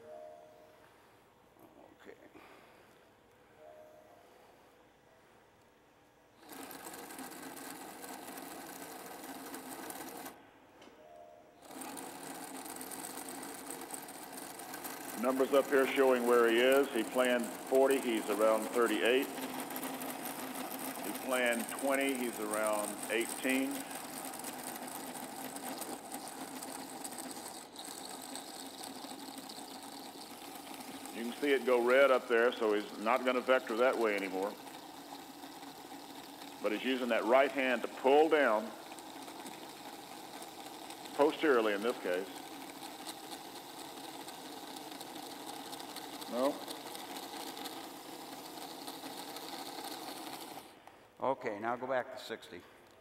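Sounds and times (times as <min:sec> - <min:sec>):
powered reamer grinding bone: 0:06.4 - 0:10.4, 0:11.6 - 0:50.8.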